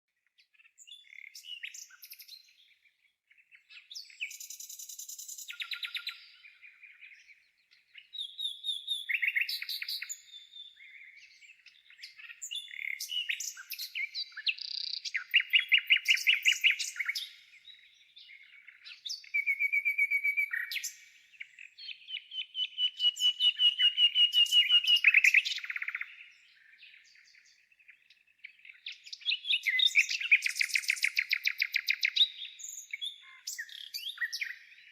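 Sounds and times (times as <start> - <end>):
songbirds singing trills: 0.2 - 34.9.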